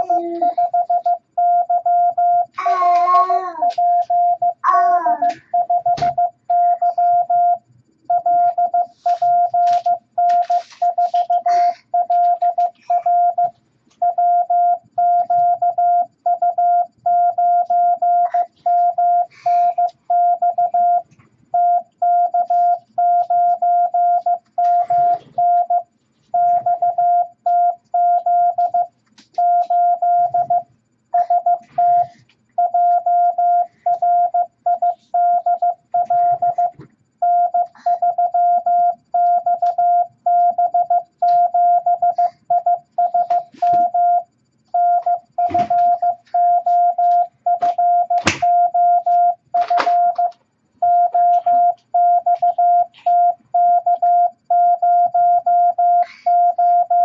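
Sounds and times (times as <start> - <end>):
morse code beeps: 0.0 - 4.6, 5.2 - 57.0.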